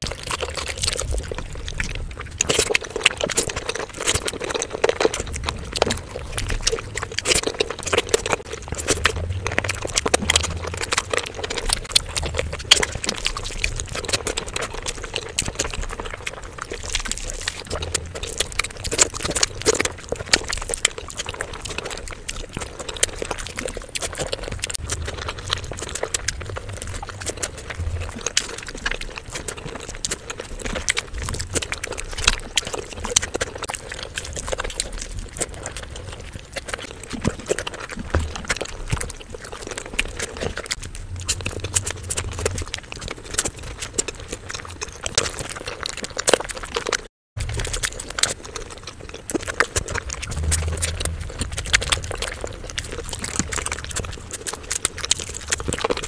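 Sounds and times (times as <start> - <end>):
wet chewing and lip-smacking: 0.0 - 56.0.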